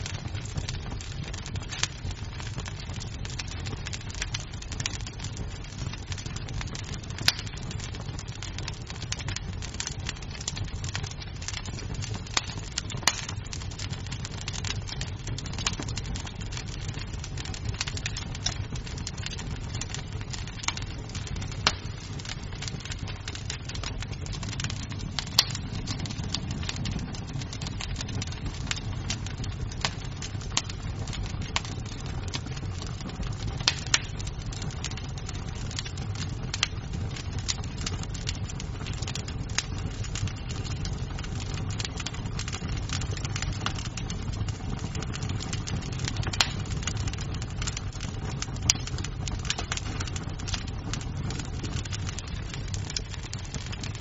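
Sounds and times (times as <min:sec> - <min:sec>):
loud pops of burning wood: 0:00.0 - 0:54.0
low rumble of flames: 0:00.0 - 0:54.0
wood fire crackling: 0:00.0 - 0:54.0.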